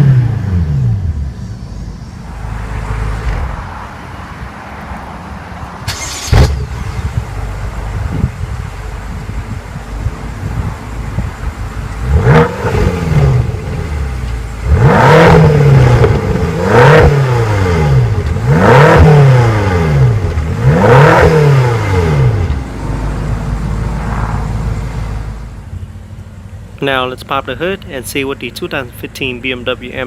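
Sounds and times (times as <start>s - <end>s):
car engine idling: 0.0s - 30.0s
car engine revving: 0.0s - 30.0s.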